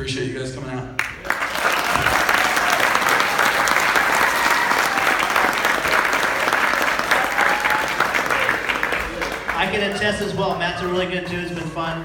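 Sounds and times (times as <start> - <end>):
audience applauding: 1.0 - 11.2.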